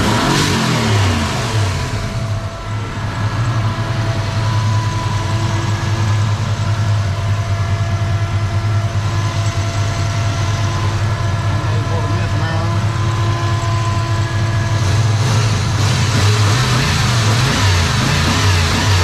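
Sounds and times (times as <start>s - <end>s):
thin steady whines: 0.0s - 19.0s
truck engine idling: 0.0s - 19.0s.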